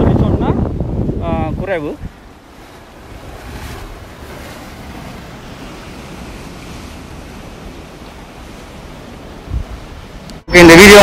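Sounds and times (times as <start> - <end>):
ocean surf washing: 0.0 - 11.0.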